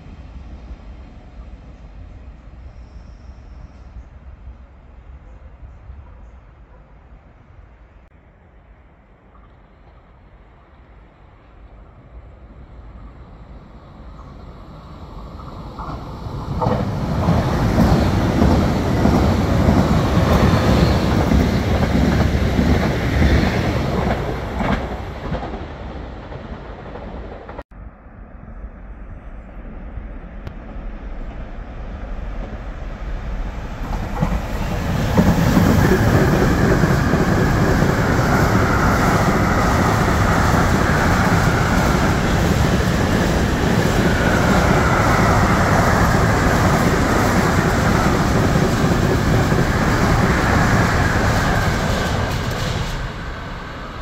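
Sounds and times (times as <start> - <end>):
passenger train rumble: 0.0 - 54.0.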